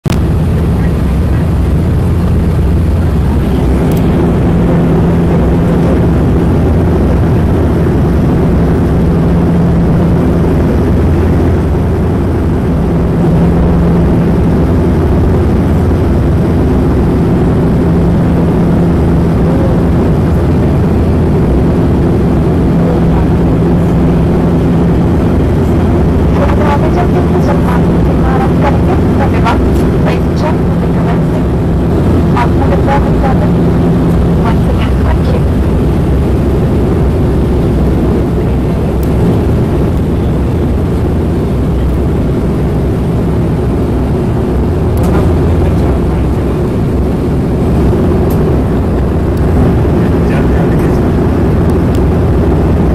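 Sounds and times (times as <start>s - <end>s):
propeller hum in cabin: 0.0s - 52.9s.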